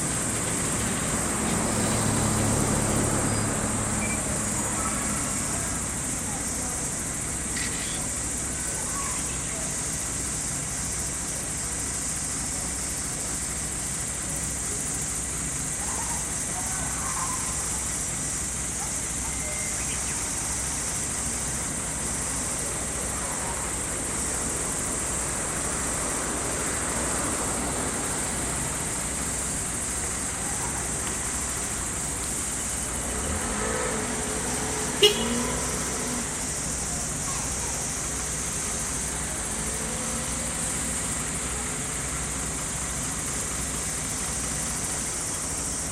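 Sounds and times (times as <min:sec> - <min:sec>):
insects droning: 0:00.0 - 0:45.9
low engine rumble: 0:00.0 - 0:45.9.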